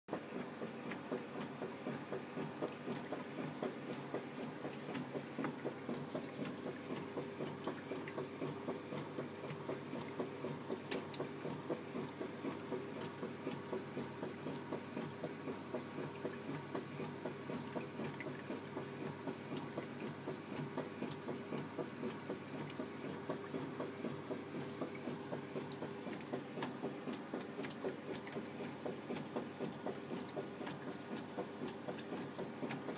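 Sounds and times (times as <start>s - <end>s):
washing machine motor humming: 0.1s - 32.9s.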